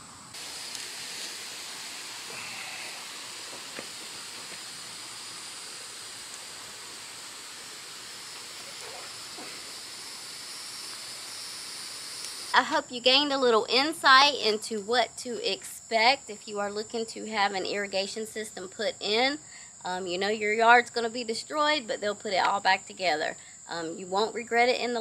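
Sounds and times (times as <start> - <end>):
sprinkler spraying water hiss: 0.0 - 23.0
crickets chirping: 0.0 - 25.0.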